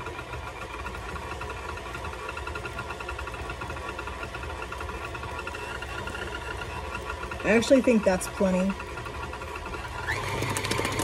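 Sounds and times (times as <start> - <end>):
stand mixer running: 0.0 - 11.0.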